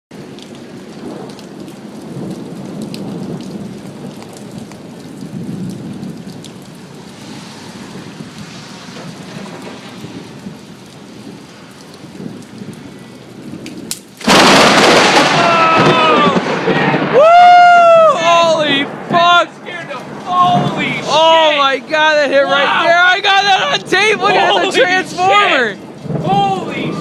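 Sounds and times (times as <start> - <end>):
steady rain: 0.1 - 27.0
low rolling thunder: 0.2 - 27.0
loud thunderclap: 0.8 - 27.0.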